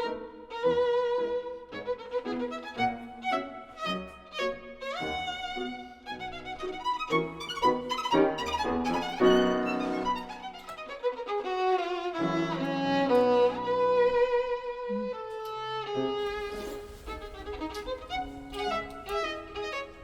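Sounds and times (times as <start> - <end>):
soft accompaniment: 0.0 - 20.0
solo violin slow melody: 0.0 - 20.0.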